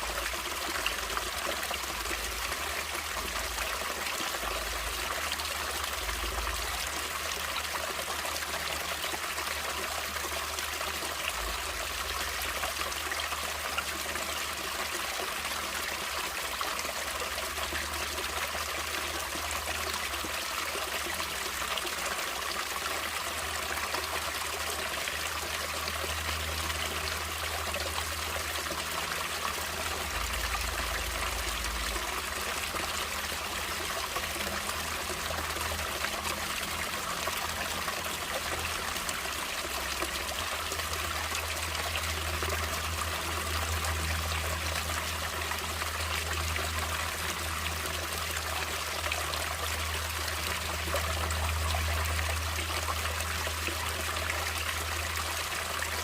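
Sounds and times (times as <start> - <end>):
stream water trickling and splashing: 0.0 - 56.0.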